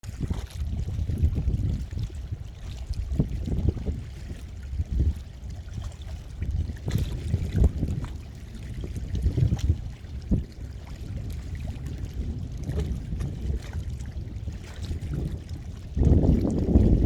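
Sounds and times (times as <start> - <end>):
sea water lapping: 0.0 - 17.0.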